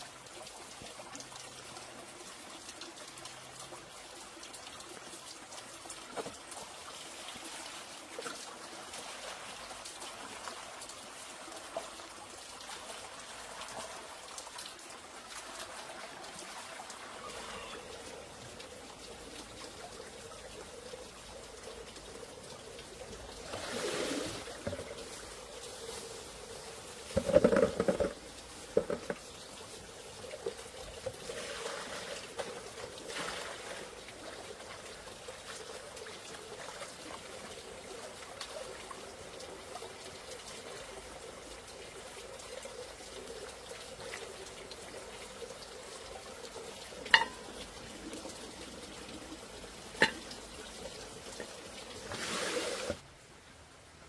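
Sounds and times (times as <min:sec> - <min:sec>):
water trickling: 0:00.0 - 0:53.2.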